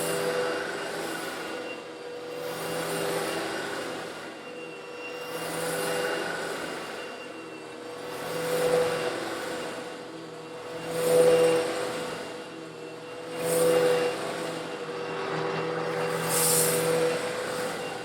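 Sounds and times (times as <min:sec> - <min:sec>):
vacuum cleaner motor hum: 0:00.0 - 0:18.0.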